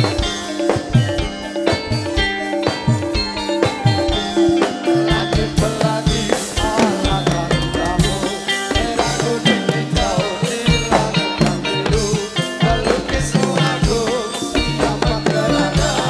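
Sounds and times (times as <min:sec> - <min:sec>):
drums beating steadily: 0:00.0 - 0:16.0
wavering melody line: 0:00.0 - 0:16.0.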